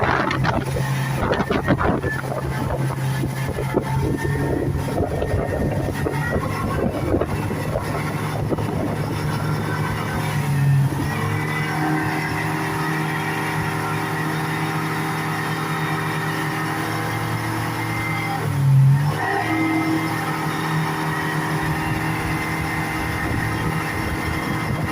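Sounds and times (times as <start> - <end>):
speedboat engine running: 0.0 - 24.9.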